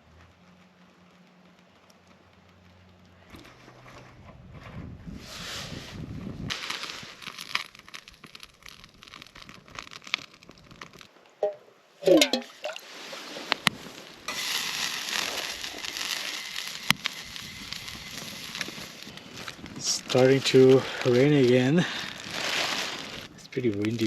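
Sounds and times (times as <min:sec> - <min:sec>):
rain pattering: 0:00.0 - 0:03.8, 0:06.5 - 0:11.4, 0:12.0 - 0:24.0.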